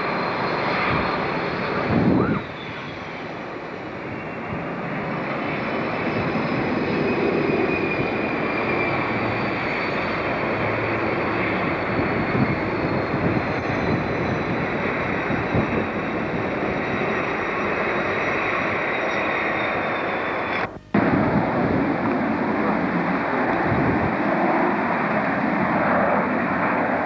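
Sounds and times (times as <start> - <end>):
faint high whine: 0.0 - 27.0
passenger train running on track: 0.0 - 27.0.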